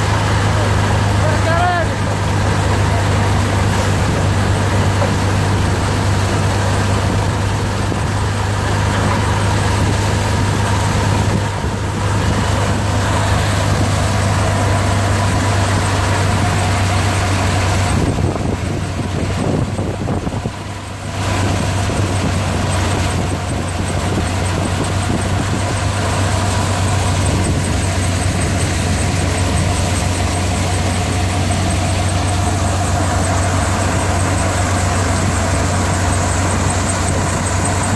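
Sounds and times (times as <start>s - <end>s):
thresher and tractor drone: 0.0s - 37.9s.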